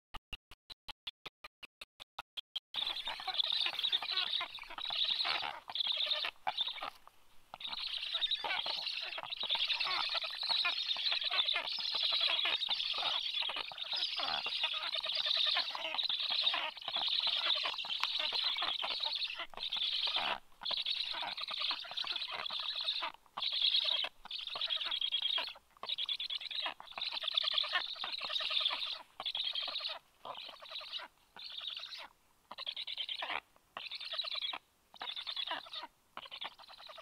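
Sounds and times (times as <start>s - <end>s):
nestlings rasping begging calls: 2.8s - 37.0s.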